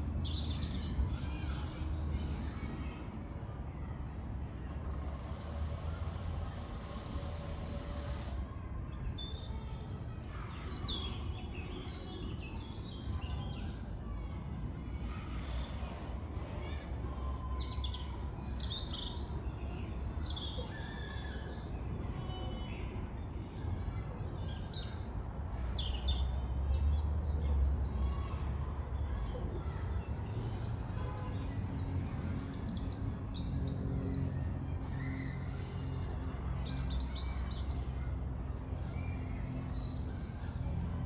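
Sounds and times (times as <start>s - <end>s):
small birds chirping and trilling: 0.0s - 3.1s, 3.8s - 40.8s
distant road traffic rumble: 0.0s - 41.0s.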